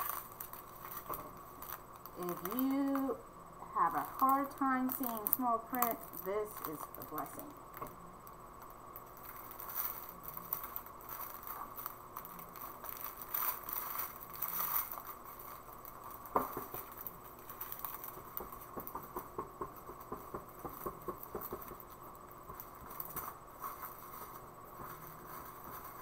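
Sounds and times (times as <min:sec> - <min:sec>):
plastic bags rustling: 0:00.0 - 0:07.8, 0:08.6 - 0:19.0, 0:20.7 - 0:26.0.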